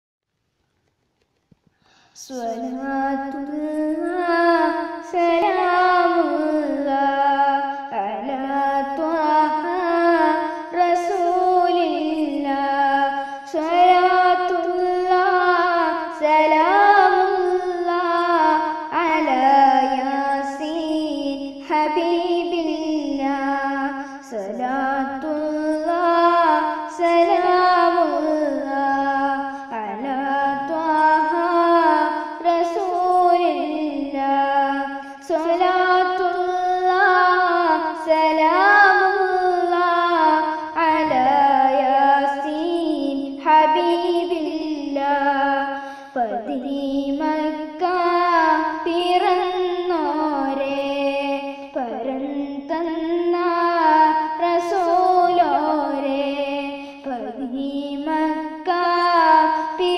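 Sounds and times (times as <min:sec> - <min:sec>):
boy singing: 0:02.1 - 0:59.9.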